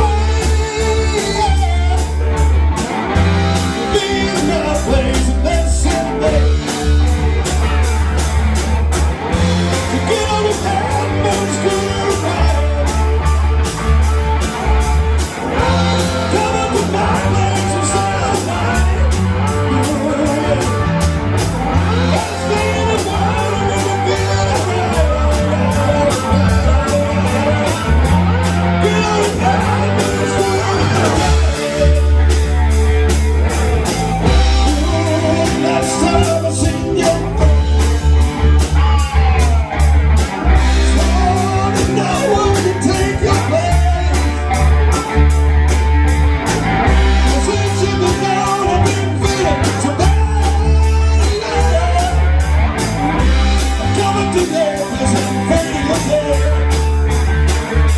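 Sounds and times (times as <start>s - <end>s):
person singing: 0.0s - 7.3s, 9.3s - 14.2s, 15.2s - 45.5s, 46.8s - 57.9s
rock band playing: 0.0s - 57.9s.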